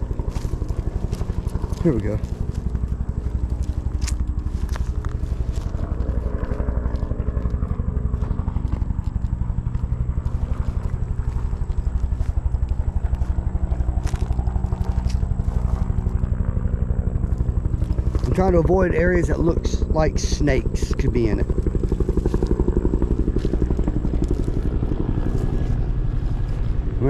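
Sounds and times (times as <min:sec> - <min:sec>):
twigs snapping: 0:00.0 - 0:16.4, 0:17.2 - 0:18.4, 0:21.5 - 0:26.8
footsteps crunching through dry brush: 0:00.0 - 0:19.5, 0:20.9 - 0:27.0
helicopter rotor beating: 0:00.0 - 0:27.0.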